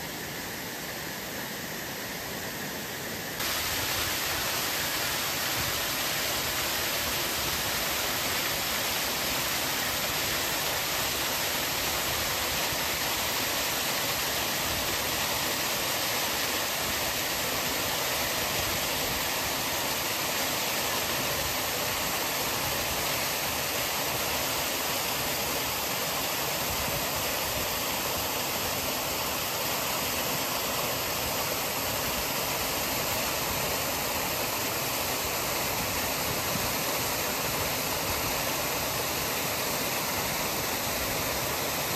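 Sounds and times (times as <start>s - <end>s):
fountain water splashing into pool: 3.4s - 41.9s.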